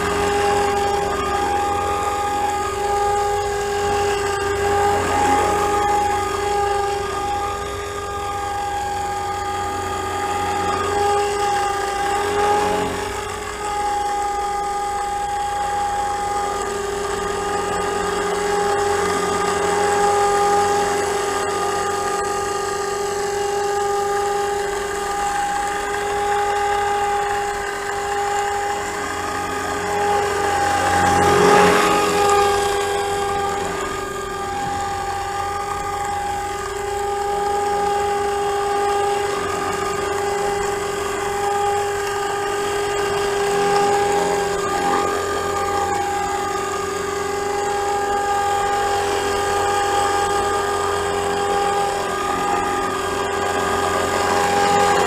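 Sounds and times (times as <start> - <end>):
rc helicopter rotor whine: 0.0 - 55.0.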